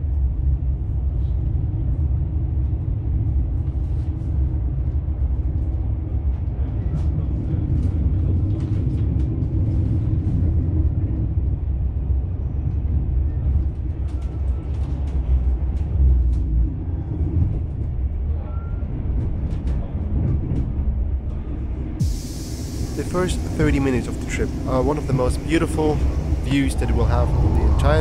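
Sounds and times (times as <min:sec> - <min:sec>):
train wheels rumbling: 0:05.0 - 0:28.0.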